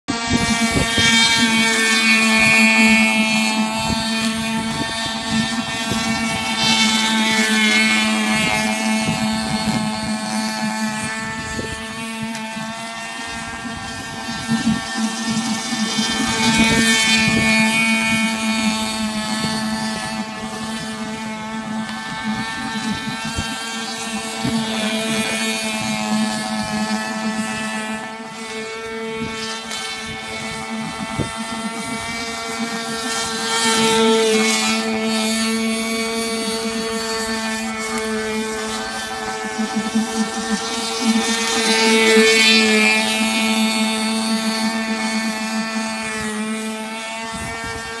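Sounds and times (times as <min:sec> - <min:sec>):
model boat motor buzzing: 0:00.0 - 0:48.0.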